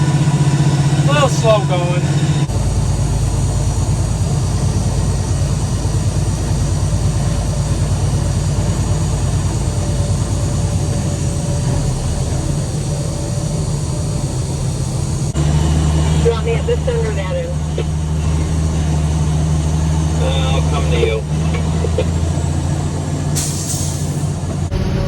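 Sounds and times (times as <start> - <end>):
heavy vehicle engine droning: 0.0 - 25.0.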